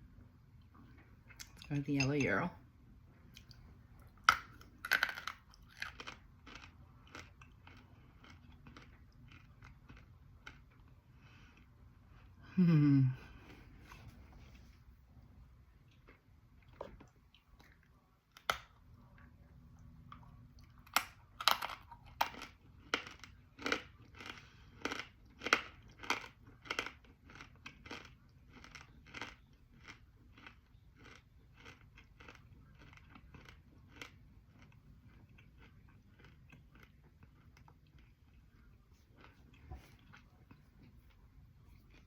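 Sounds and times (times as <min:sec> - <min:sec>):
crunchy chewing: 0:03.2 - 0:12.4, 0:15.8 - 0:42.0.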